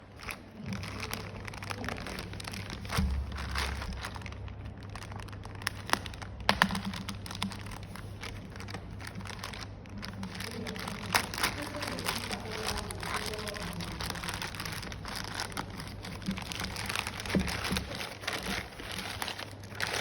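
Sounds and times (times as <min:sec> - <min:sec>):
low steady hum: 0:00.0 - 0:20.0
packaging crinkling and rustling: 0:00.0 - 0:20.0.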